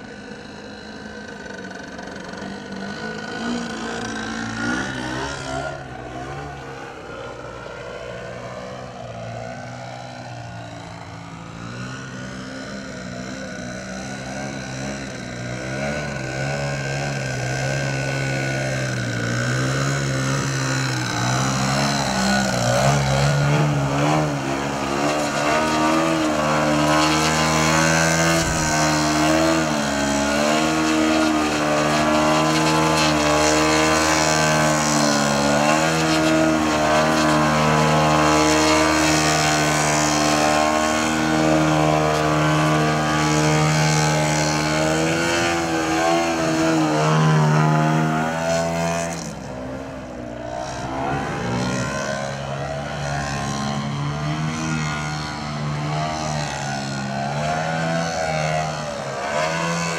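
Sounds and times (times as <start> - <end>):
model plane engine running hard: 0.0 - 59.9.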